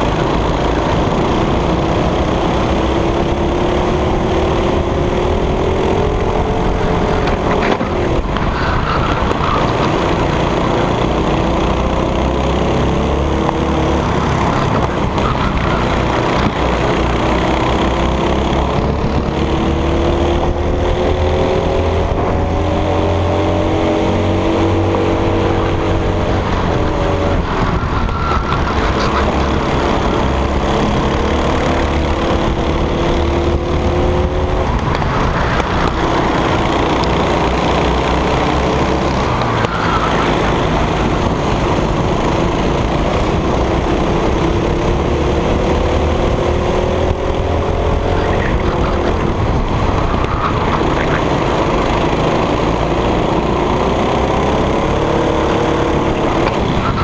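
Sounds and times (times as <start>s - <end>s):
kart engine revving: 0.0s - 57.0s
steady rushing noise: 0.0s - 57.0s.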